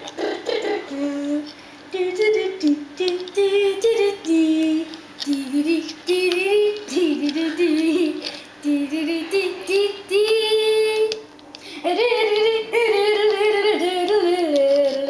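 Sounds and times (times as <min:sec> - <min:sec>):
child singing: 0:00.6 - 0:11.2, 0:11.8 - 0:15.0.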